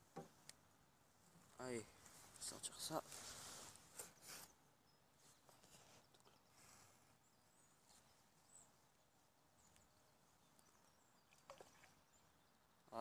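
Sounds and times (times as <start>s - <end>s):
faint bird chirps: 1.6s - 13.0s.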